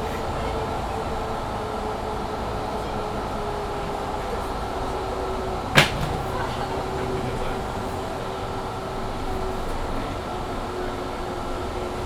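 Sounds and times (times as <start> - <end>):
bus running and road rumble: 0.0 - 12.0.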